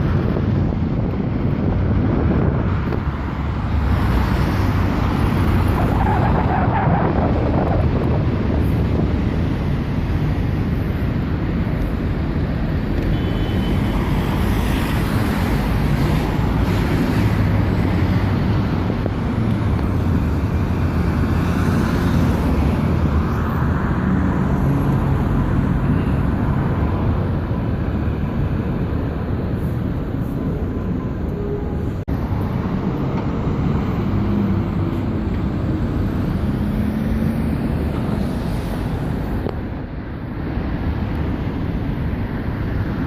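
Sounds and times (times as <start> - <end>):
heavy road traffic: 0.0 - 43.0.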